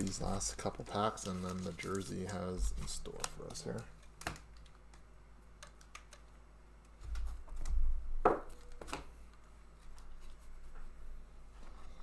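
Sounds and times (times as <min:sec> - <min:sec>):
soft rustling of cards: 0:00.0 - 0:07.8, 0:08.6 - 0:12.0.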